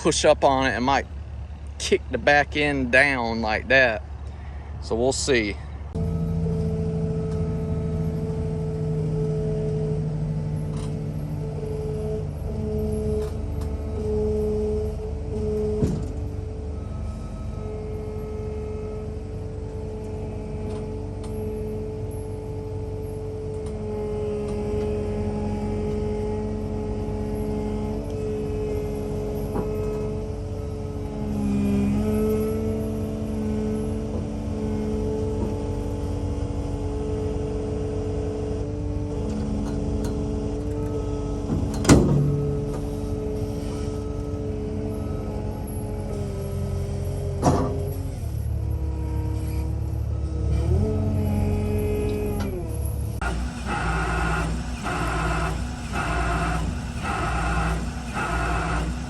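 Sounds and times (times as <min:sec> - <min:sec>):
machine engine running: 0:05.6 - 0:59.0.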